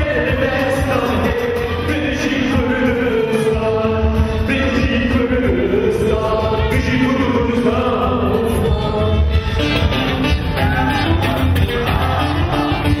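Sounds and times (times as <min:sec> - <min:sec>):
band playing dance music: 0:00.0 - 0:13.0
person singing: 0:00.0 - 0:13.0.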